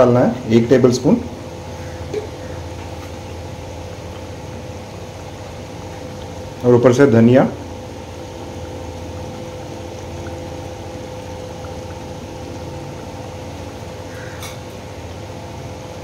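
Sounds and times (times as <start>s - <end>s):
steady background hum: 0.0s - 16.0s
gravy bubbling in a pot: 0.6s - 16.0s.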